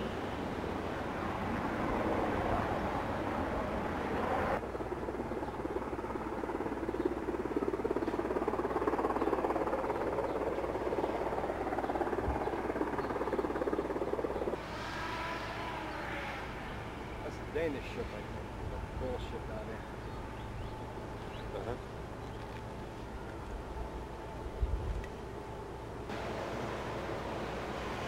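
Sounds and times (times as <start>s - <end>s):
outdoor hiss and rumble: 0.0s - 28.0s.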